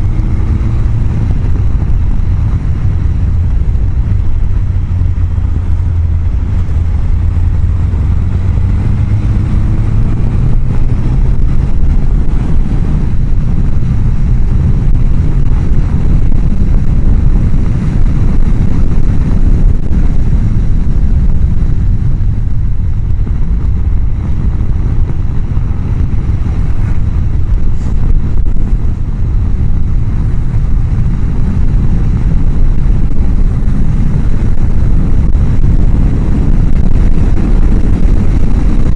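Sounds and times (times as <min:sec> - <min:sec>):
motorcycle engine: 0:00.0 - 0:38.9
wind rushing on microphone: 0:00.0 - 0:38.9.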